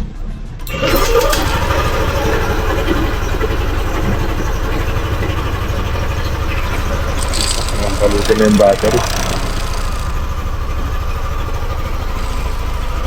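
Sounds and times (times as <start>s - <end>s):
scooter engine idling: 0.7s - 13.0s.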